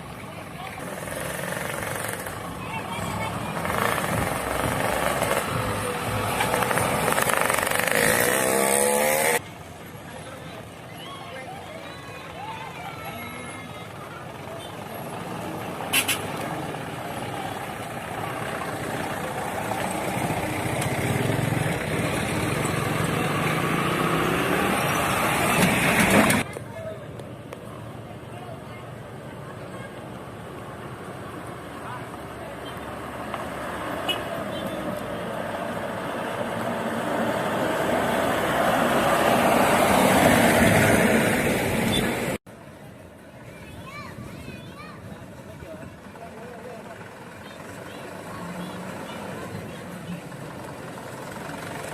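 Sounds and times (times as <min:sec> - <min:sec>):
road noise: 0:00.0 - 0:51.9.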